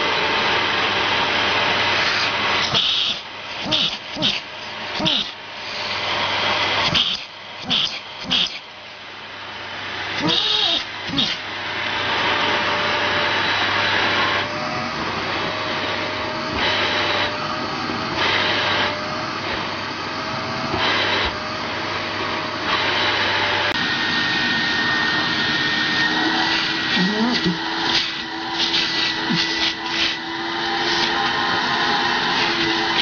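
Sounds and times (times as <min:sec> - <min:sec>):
vacuum cleaner high whine: 0:00.0 - 0:33.0
vacuum cleaner rushing air: 0:00.0 - 0:33.0.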